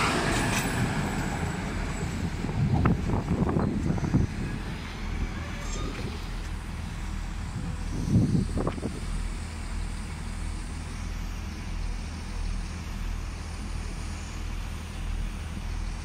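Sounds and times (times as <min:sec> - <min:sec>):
distant diesel train rumble: 0:00.0 - 0:16.0
outdoor station ambience: 0:00.0 - 0:16.0.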